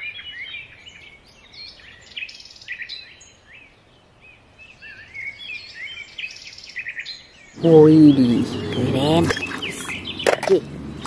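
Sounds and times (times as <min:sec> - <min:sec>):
faint background hiss: 0:00.0 - 0:11.0
small birds chirping: 0:00.0 - 0:11.0.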